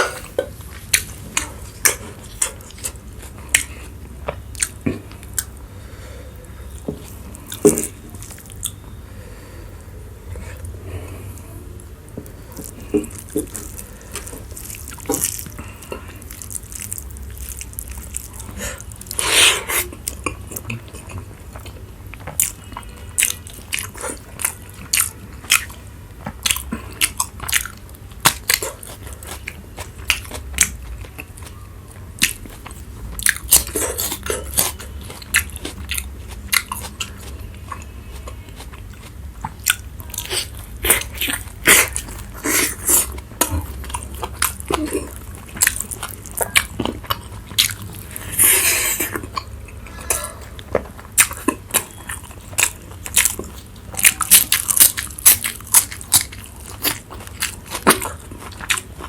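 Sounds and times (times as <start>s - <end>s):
person chewing and crunching: 0.0s - 8.9s, 10.3s - 59.0s
low steady hum: 0.0s - 59.0s.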